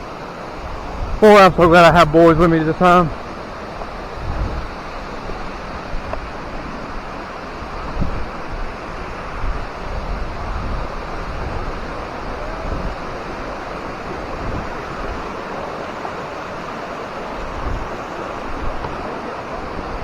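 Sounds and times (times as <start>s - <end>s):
flowing water rushing: 0.0s - 20.0s
wind buffeting microphone: 0.0s - 20.0s.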